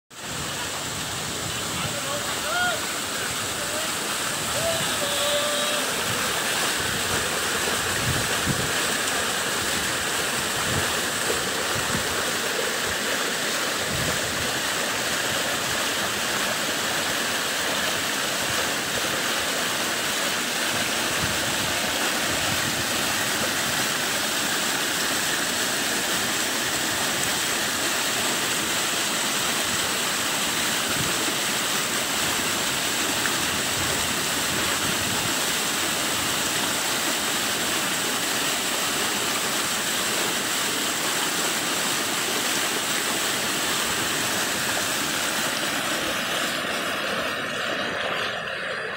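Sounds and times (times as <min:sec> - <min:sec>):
water rushing over rocks: 0:00.1 - 0:48.9.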